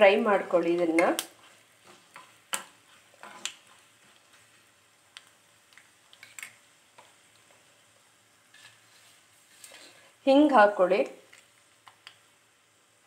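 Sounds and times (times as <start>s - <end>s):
spices popping in hot oil: 0.0s - 13.0s.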